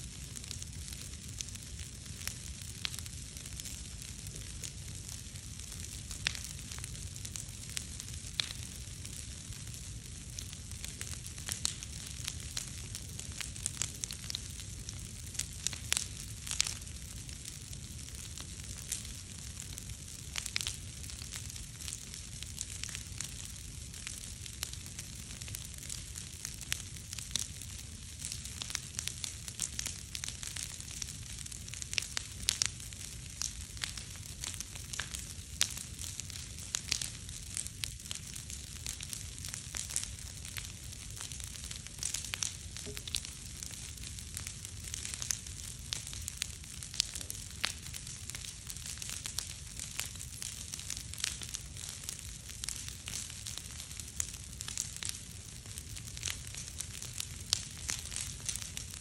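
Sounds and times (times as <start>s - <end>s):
bonfire crackling and popping: 0.0s - 59.0s.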